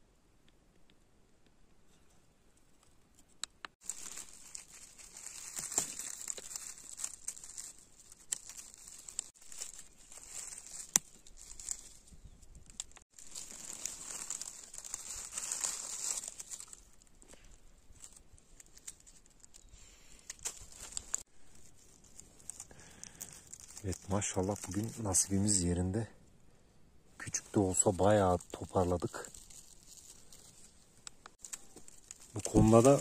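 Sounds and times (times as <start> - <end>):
dry leaves rustling and crackling: 3.8 - 26.0, 27.2 - 33.0.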